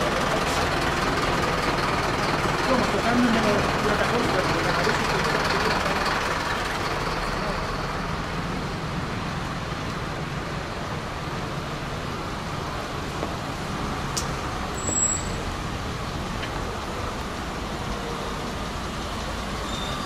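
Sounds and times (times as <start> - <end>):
distant traffic rumble: 0.0 - 20.0.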